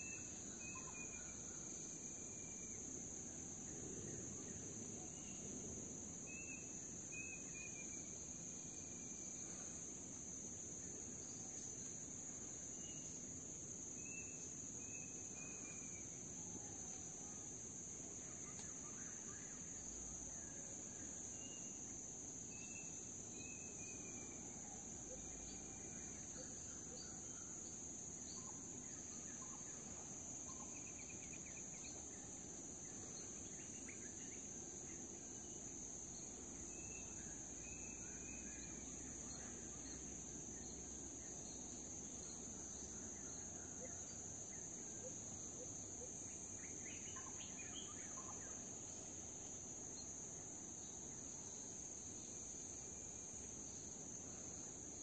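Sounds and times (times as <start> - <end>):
insect chorus droning: 0.0 - 55.0.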